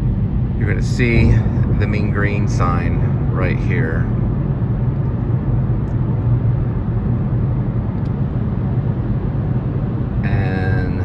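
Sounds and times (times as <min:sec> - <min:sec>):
car driving road noise: 0:00.0 - 0:09.3
low hum: 0:00.0 - 0:11.0.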